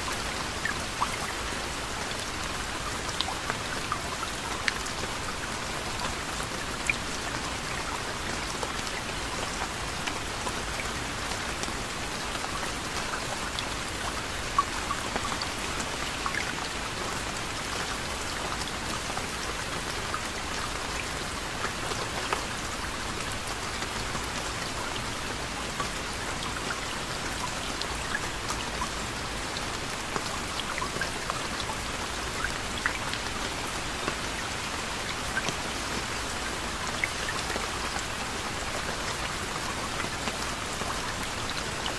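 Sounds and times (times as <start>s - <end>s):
raindrops ticking on a surface: 0.0s - 41.9s
soft steady rain: 0.0s - 41.9s.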